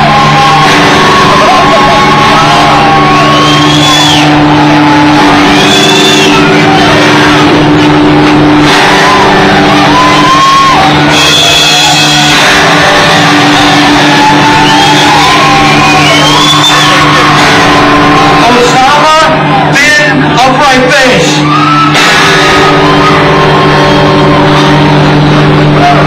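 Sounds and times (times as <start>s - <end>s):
distorted live rock music: 0.0s - 26.0s
people shouting and whooping: 0.0s - 26.0s
steady low drone: 0.0s - 26.0s.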